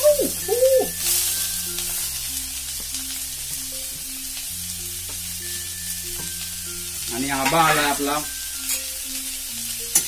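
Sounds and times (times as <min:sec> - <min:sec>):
prawns sizzling in hot oil: 0:00.0 - 0:10.0.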